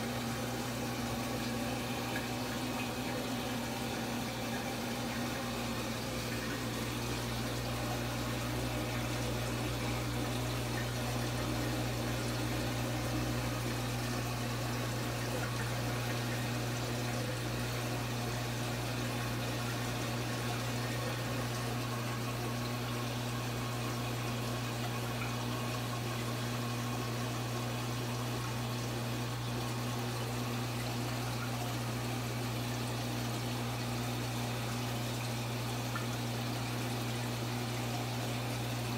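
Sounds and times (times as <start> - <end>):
constant low hum: 0.0 - 38.9.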